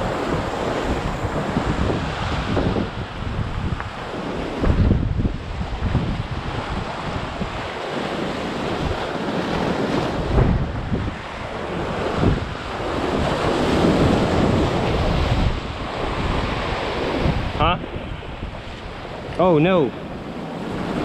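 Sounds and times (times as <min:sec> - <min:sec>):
surf breaking over rocks: 0:00.0 - 0:21.0
wind buffeting microphone: 0:00.0 - 0:21.0.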